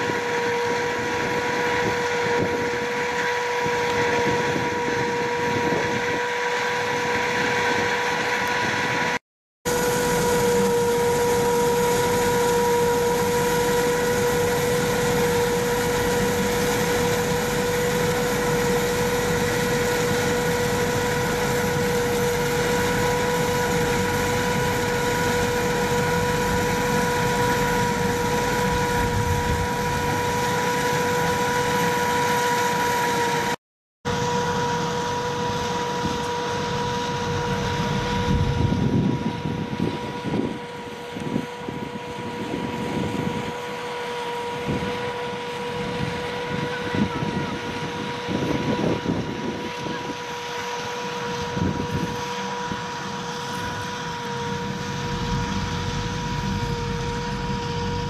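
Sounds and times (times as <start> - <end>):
harvester mechanical drone: 0.0 - 58.0.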